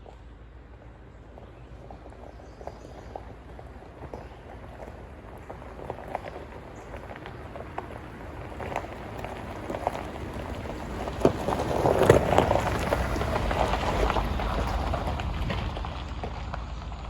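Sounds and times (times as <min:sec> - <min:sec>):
truck tires rolling on gravel: 0:00.0 - 0:17.0.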